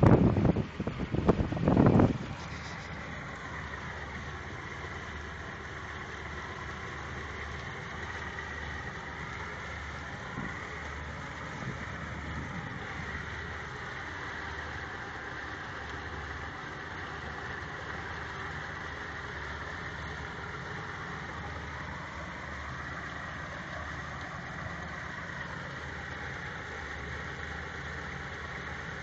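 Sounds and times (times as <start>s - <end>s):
boat motor running: 0.0s - 29.0s
rush of wind and water: 0.0s - 29.0s.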